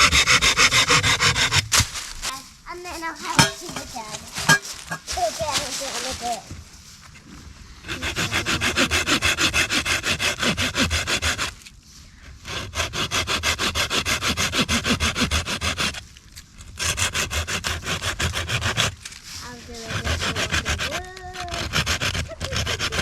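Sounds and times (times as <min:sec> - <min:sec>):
hand saw cutting wood: 0:00.0 - 0:02.3, 0:03.0 - 0:06.4, 0:07.8 - 0:11.7, 0:12.4 - 0:23.0.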